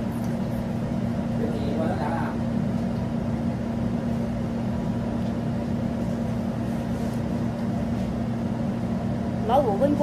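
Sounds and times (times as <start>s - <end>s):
kitchen equipment humming: 0.0s - 10.0s.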